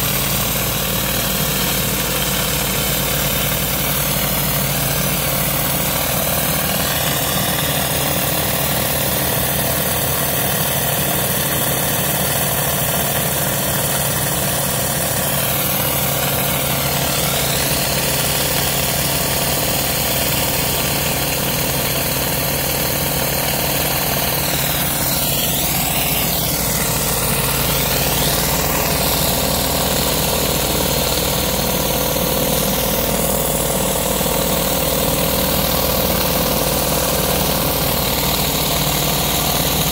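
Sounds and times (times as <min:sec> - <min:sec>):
high-pressure water hissing: 0:00.0 - 0:39.9
pressure washer engine running: 0:00.0 - 0:39.9.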